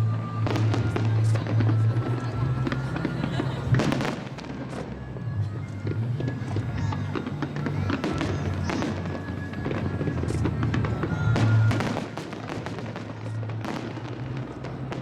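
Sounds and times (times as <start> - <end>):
fireworks cracking and popping: 0.0 - 15.0
music playing: 0.0 - 15.0.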